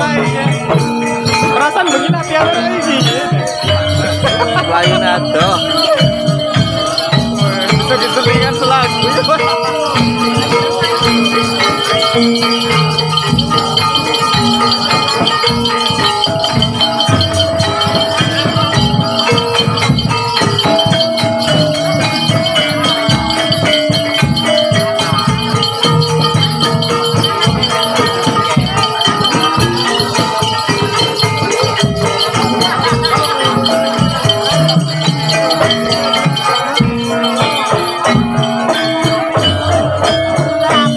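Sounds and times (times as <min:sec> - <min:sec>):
metallophone melody: 0:00.0 - 0:40.9
rapid percussion with jingling: 0:00.0 - 0:40.9.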